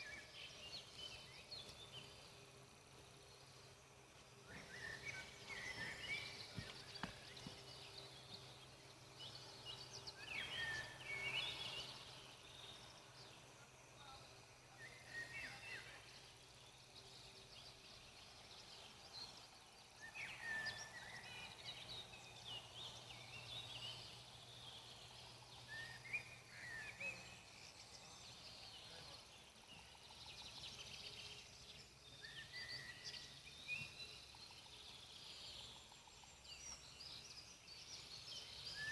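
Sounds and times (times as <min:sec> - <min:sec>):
bird chirping: 0:04.4 - 0:38.9.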